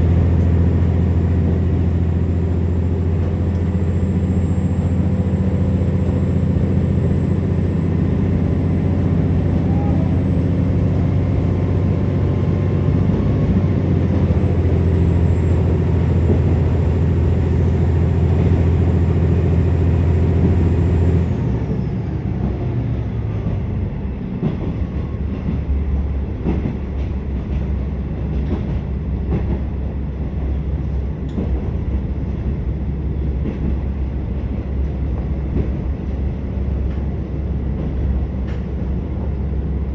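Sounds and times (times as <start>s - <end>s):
diesel railcar engine: 0.0s - 39.9s.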